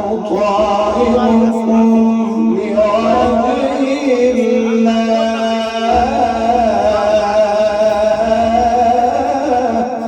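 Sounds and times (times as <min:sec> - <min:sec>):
man reciting melodically: 0:00.0 - 0:10.0
steady low drone: 0:00.0 - 0:10.0.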